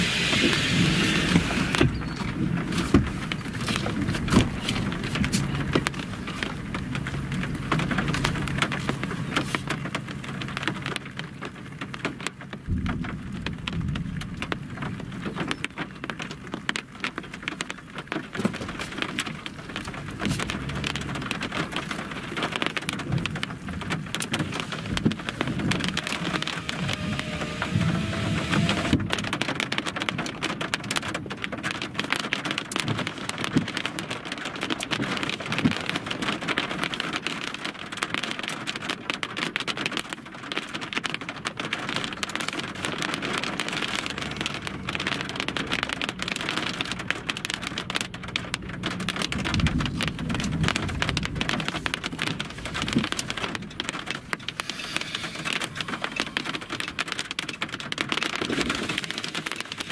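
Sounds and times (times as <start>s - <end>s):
rain on a vehicle windshield: 0.0s - 59.9s.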